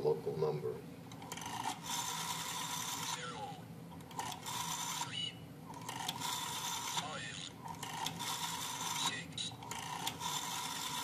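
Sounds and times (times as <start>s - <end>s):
rotary phone dial whirring: 1.1s - 11.0s.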